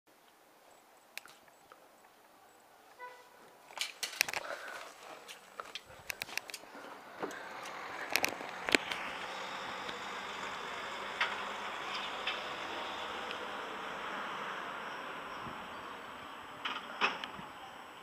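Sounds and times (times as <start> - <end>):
distant city traffic hum: 0.2 - 18.0.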